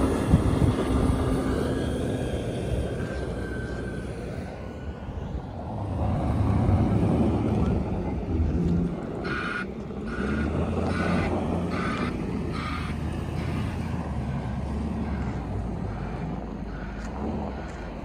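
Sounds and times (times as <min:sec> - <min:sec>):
truck engine running: 0:00.0 - 0:18.0
tyres rolling through snow: 0:00.0 - 0:18.0.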